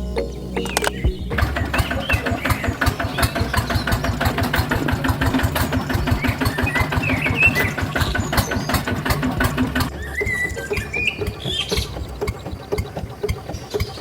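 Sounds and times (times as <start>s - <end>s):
engine thumping steadily: 0.1s - 14.0s.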